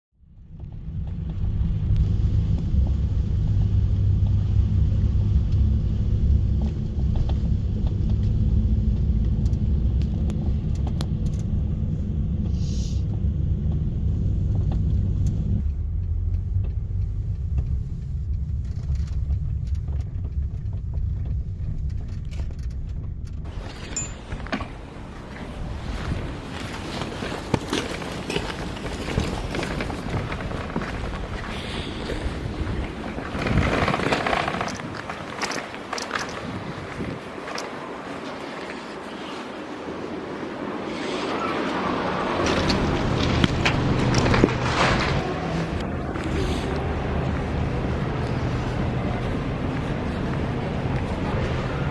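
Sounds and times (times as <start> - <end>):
vehicle rumble: 0.2 - 51.9.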